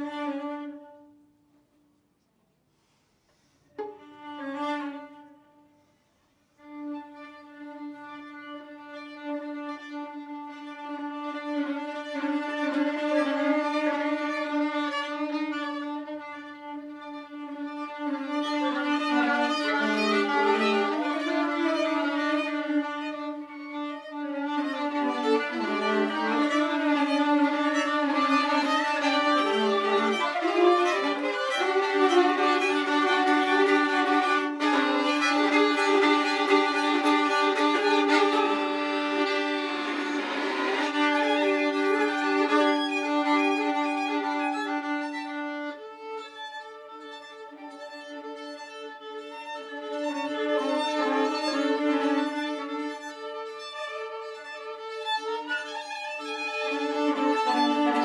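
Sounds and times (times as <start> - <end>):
violin and viola bowed: 0.0 - 1.2, 3.4 - 58.0.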